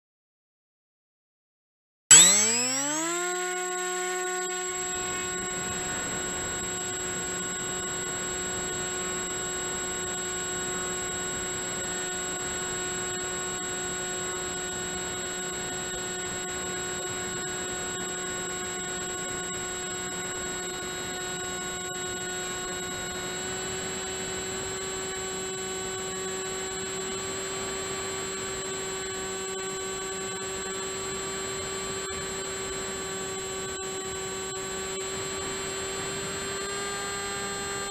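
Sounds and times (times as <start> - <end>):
model plane motor whine: 2.1 - 37.9.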